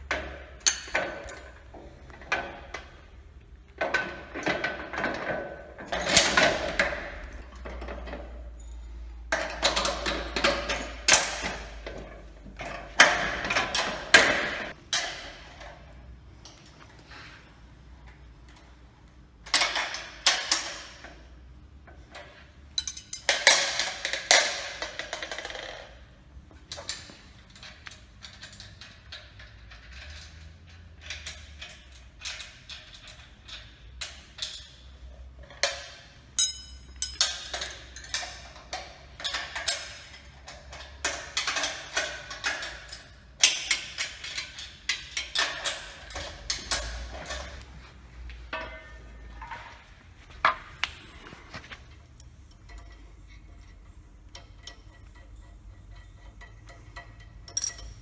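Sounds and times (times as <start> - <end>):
metal tools clinking on steel: 0.0 - 16.6, 21.9 - 25.9, 26.7 - 58.0.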